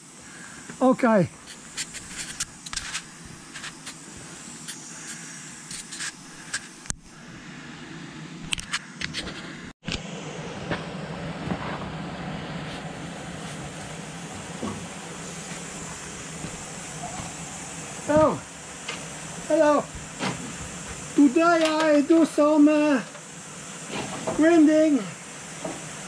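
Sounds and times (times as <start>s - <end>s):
mechanical hum and hiss: 0.0s - 26.0s.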